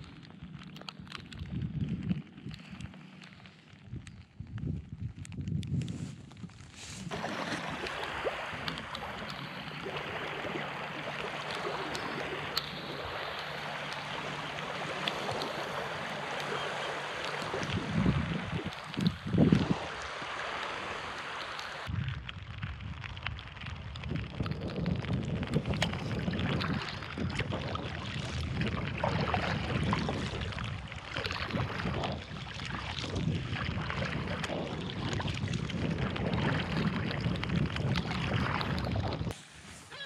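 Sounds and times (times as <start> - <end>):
wind buffeting microphone: 0.0 - 3.0, 3.8 - 39.4
water splashing around kayak: 5.2 - 40.0.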